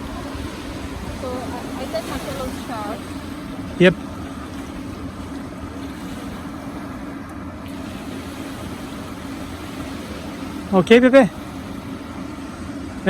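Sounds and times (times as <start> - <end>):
steady motor hum: 0.0 - 13.0
surf: 0.0 - 13.0
wind: 0.0 - 13.0.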